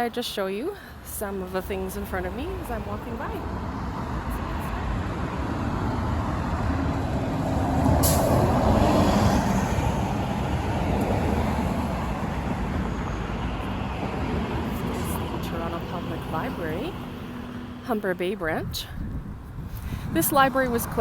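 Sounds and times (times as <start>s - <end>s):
street traffic: 0.0s - 21.0s
heavy vehicle passing: 1.0s - 21.0s.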